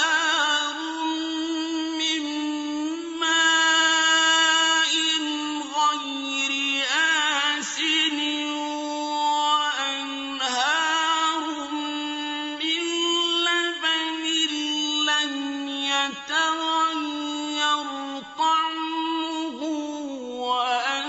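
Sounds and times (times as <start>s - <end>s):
man chanting melodic recitation: 0.0s - 21.0s.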